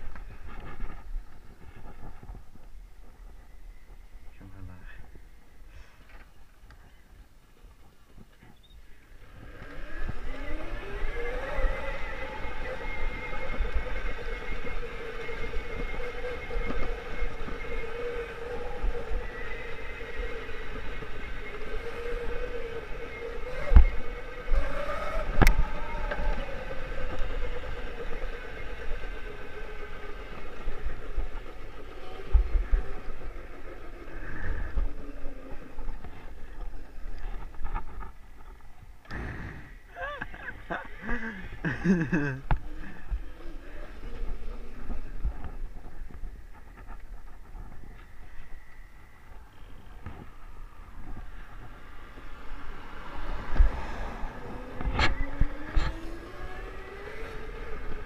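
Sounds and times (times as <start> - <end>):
low wind rumble: 0.0 - 58.0
electric motor whining: 9.1 - 38.0, 39.1 - 58.0.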